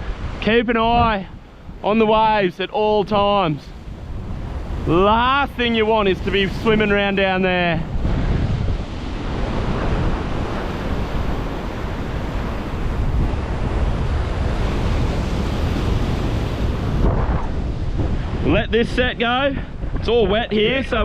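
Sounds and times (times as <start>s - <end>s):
wind buffeting microphone: 0.0s - 21.0s
ocean swell washing against rocks: 1.4s - 20.0s.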